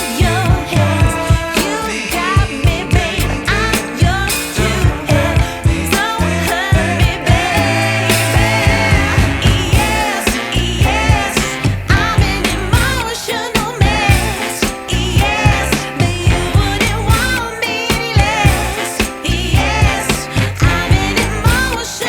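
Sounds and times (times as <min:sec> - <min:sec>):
bass: 0:00.0 - 0:22.0
person singing: 0:00.0 - 0:22.0
soul-funk song: 0:00.0 - 0:22.0
steady drum beat: 0:00.0 - 0:22.0.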